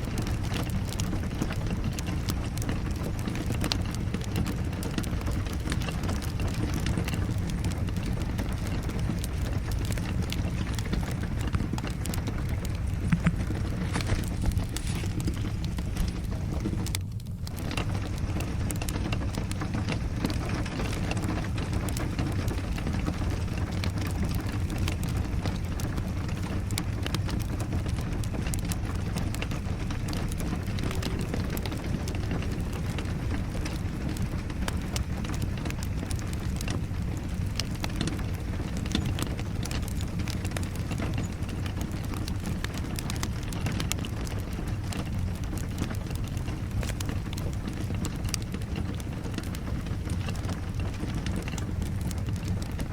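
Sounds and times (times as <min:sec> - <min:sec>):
fireplace fire crackling: 0:00.0 - 0:52.9
steady rain: 0:00.0 - 0:52.9.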